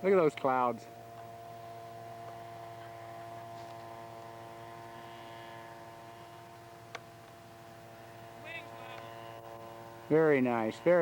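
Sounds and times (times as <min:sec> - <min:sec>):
distant model plane engine drone: 0:00.0 - 0:11.0.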